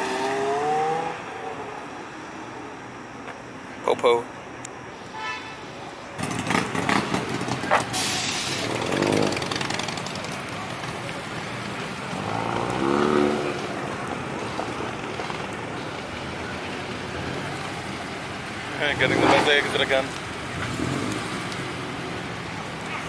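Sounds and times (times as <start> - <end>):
car engines revving: 0.0 - 3.2, 5.8 - 23.0
traffic noise: 0.0 - 23.0.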